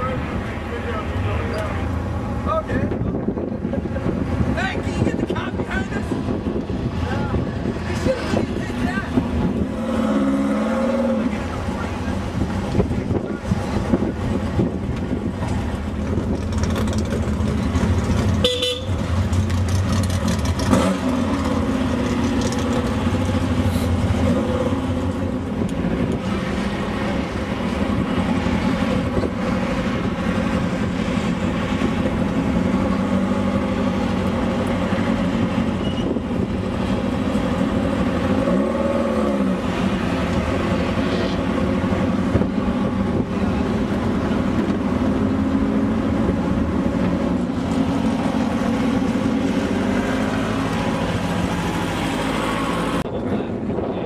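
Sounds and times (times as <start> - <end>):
race vehicle engine running: 0.0 - 54.0.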